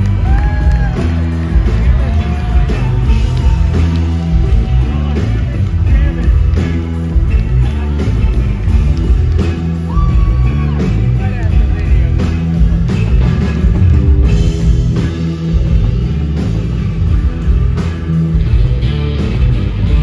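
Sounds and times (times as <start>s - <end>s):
bass: 0.0s - 20.0s
drums: 0.0s - 20.0s.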